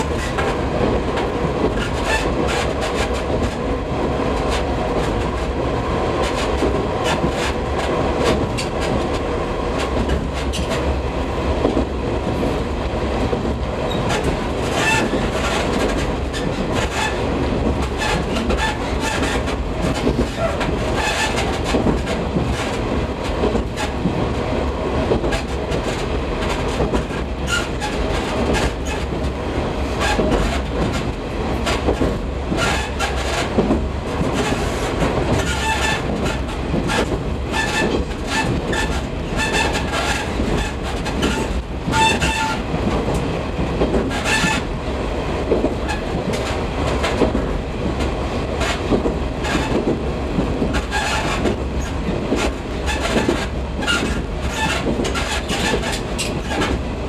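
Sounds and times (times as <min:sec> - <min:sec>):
wheels clicking over rail joints: 0:00.0 - 0:05.6, 0:06.2 - 0:11.0, 0:13.2 - 0:24.4, 0:25.0 - 0:44.8, 0:45.4 - 0:56.8
railcar running noise: 0:00.0 - 0:57.0.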